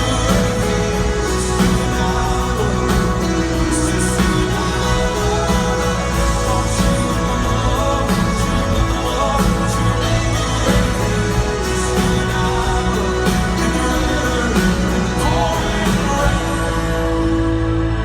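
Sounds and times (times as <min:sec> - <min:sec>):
person singing: 0:00.0 - 0:17.6
drums: 0:00.0 - 0:18.0
guitars: 0:00.0 - 0:18.0.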